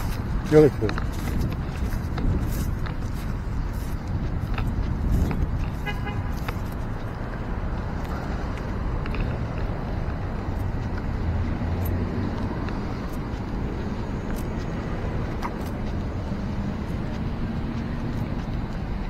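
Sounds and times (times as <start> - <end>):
footsteps on asphalt: 0.0 - 19.0.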